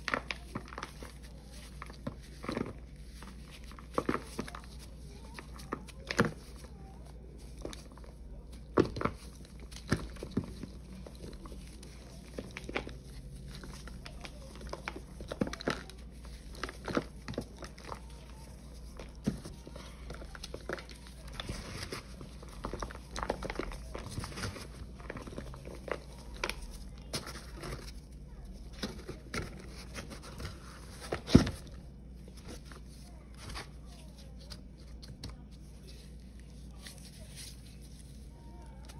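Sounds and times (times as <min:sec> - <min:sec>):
hands crushing dried powder paste: 0:00.0 - 0:38.9.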